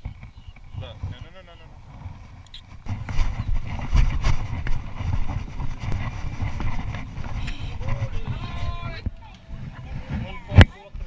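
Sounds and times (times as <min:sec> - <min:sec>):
microphone handling noise: 0:00.0 - 0:11.0
wind rumble on microphone: 0:00.0 - 0:11.0.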